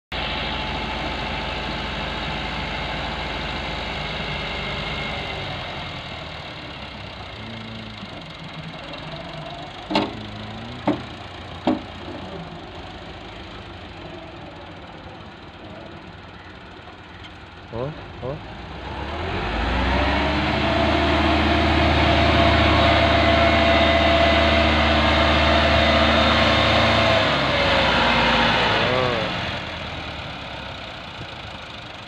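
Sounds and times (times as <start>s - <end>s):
tractor diesel engine running: 0.1s - 32.0s.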